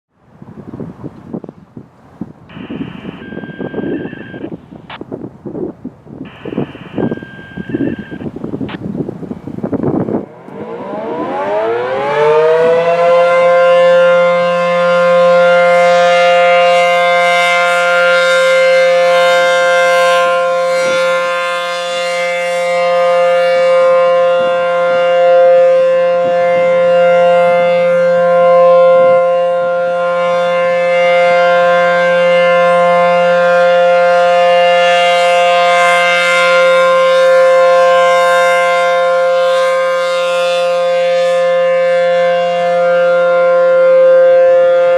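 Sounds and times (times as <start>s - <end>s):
warning siren winding up: 2.5s - 5.0s, 6.3s - 8.9s, 10.0s - 44.9s.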